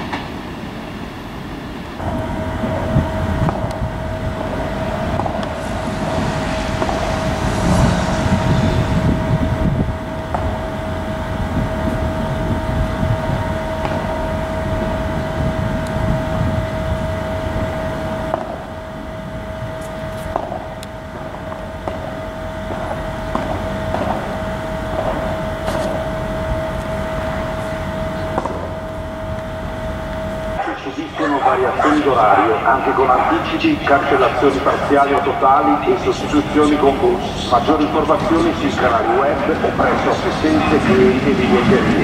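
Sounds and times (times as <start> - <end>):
steady hum: 0.0 - 42.0
train wheels rumbling on rail: 0.0 - 42.0.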